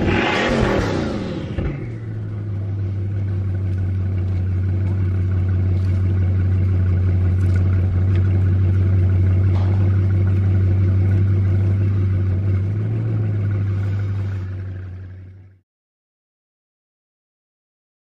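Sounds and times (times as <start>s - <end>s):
car engine droning: 0.0s - 15.6s.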